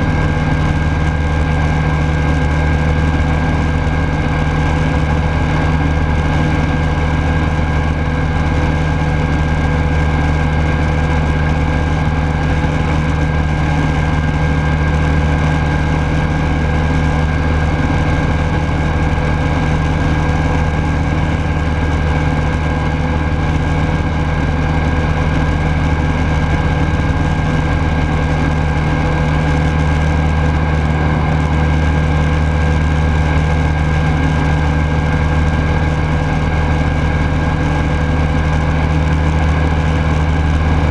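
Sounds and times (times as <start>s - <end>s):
aircraft engine and propeller running: 0.0s - 40.9s.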